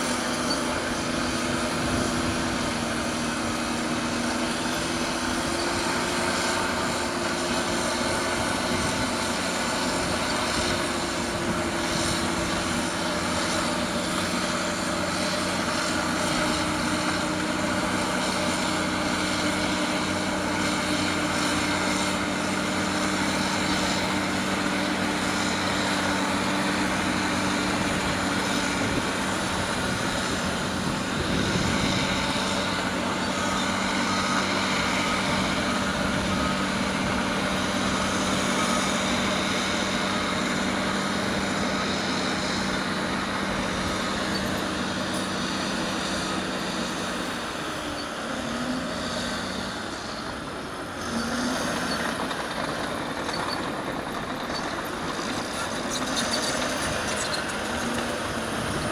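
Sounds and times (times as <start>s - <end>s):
diesel machinery engine hum: 0.0s - 58.9s.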